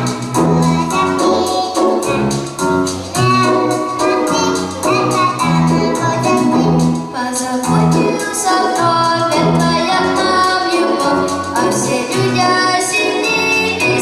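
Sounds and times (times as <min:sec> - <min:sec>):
children singing: 0:00.0 - 0:14.0
instrumental accompaniment with bass: 0:00.0 - 0:14.0.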